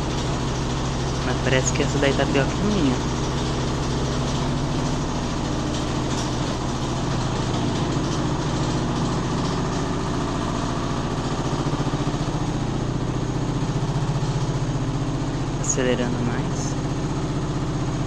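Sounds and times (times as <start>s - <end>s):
washing machine spin cycle hum: 0.0s - 18.0s.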